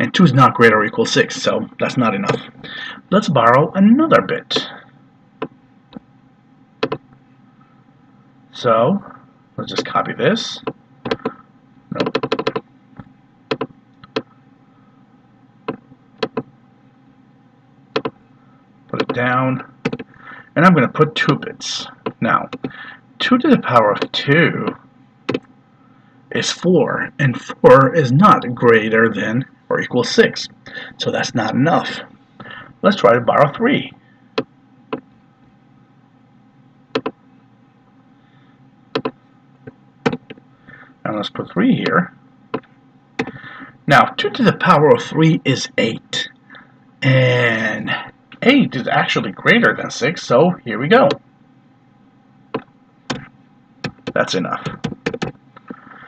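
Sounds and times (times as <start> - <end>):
faint room hum: 0.0 - 56.0.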